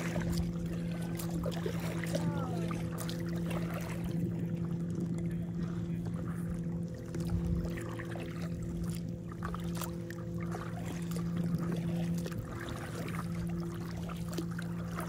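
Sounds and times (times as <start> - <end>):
steady low hum: 0.0 - 15.0
water lapping around paddleboard: 0.0 - 15.0.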